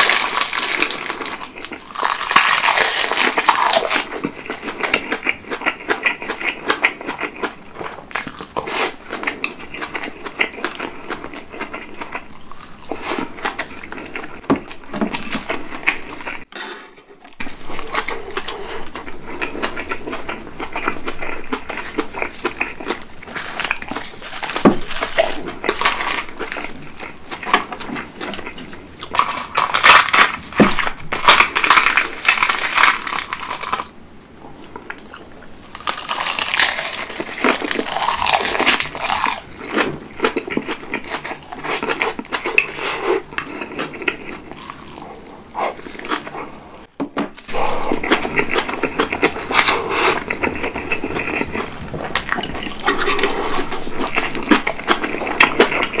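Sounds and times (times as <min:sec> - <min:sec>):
wet crunching chewing: 0:00.0 - 0:16.5, 0:17.3 - 0:34.0, 0:34.8 - 0:46.6, 0:47.4 - 0:56.0.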